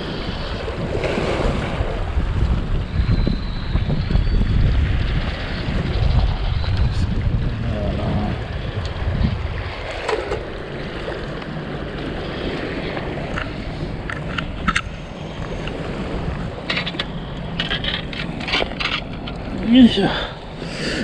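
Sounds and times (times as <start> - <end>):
sea water washing ashore: 0.0 - 21.0
wind buffeting microphone: 0.0 - 21.0.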